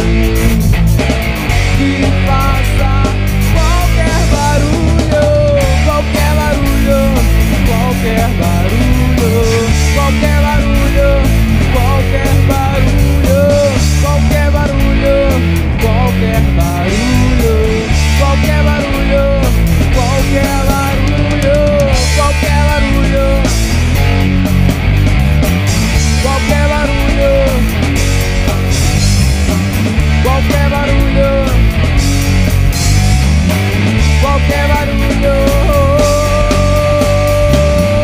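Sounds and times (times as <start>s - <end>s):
lead guitar bending pitch: 0.0s - 38.0s
rock band playing: 0.0s - 38.0s.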